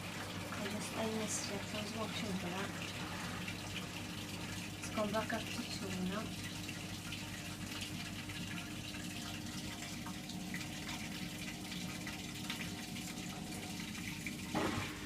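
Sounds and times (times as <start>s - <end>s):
washing machine drain pump humming: 0.0s - 15.0s
water rushing through pump: 0.0s - 15.0s.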